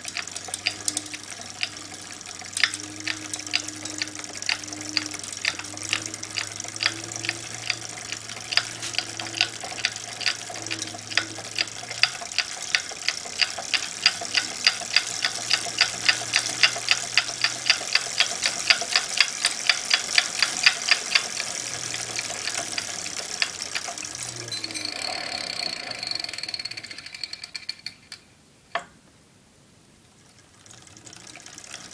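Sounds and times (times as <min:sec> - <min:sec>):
bicycle drivetrain ticking: 0:00.0 - 0:28.2, 0:30.2 - 0:31.9.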